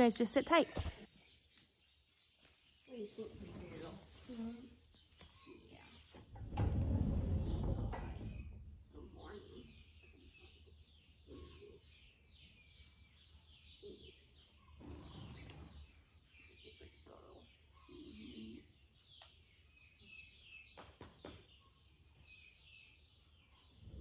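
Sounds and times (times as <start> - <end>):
small birds chirping: 0.0 - 6.5, 7.4 - 24.0.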